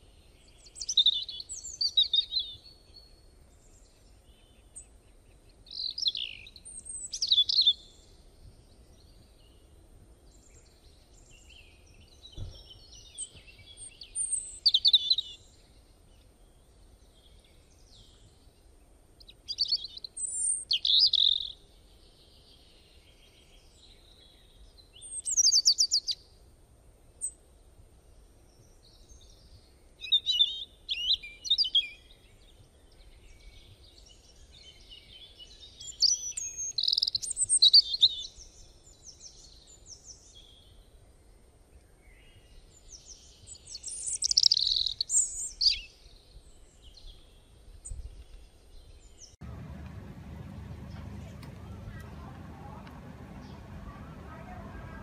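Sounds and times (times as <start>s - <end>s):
faint low background noise: 0.0s - 55.0s.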